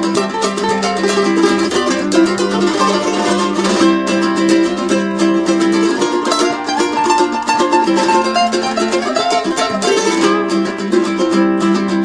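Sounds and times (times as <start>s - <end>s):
fast-picked plucked string music: 0.0s - 12.0s
held notes: 0.0s - 12.0s.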